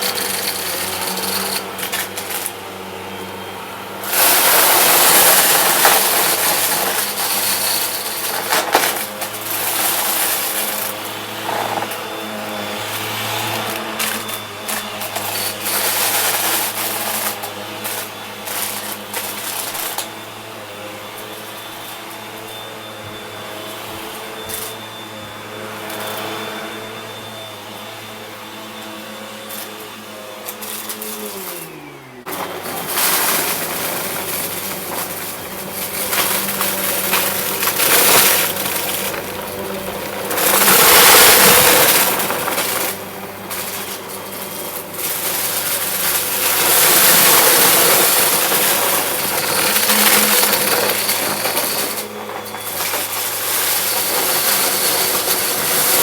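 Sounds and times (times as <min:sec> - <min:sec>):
vacuum cleaner motor: 0:00.0 - 0:56.0
vacuum crunching confetti: 0:00.0 - 0:56.0.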